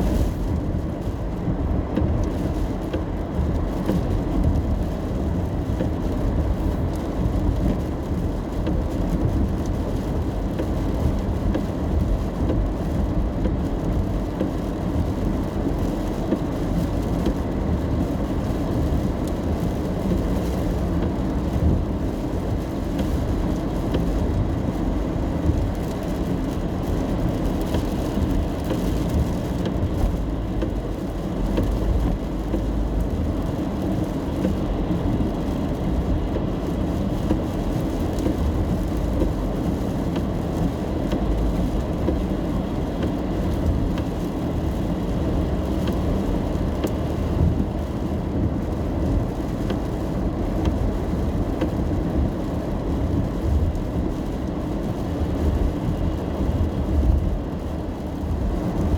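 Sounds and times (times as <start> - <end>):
car road noise rumble: 0.0 - 58.9
rain ticking on car: 0.0 - 58.9.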